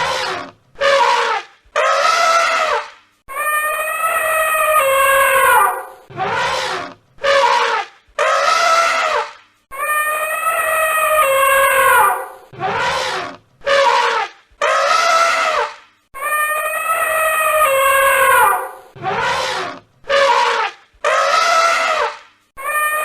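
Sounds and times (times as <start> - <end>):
animal calling loudly: 0.0 - 23.0.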